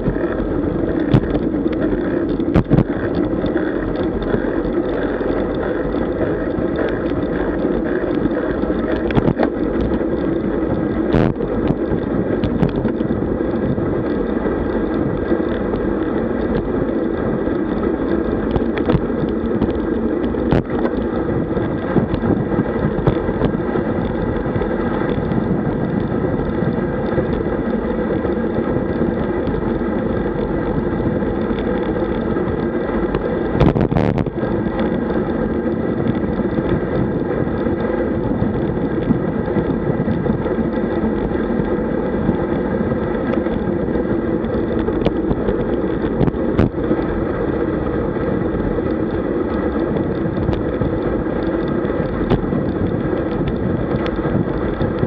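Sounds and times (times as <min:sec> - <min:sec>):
tyre and road noise: 0:00.0 - 0:55.0
wind rushing over microphone: 0:00.0 - 0:55.0.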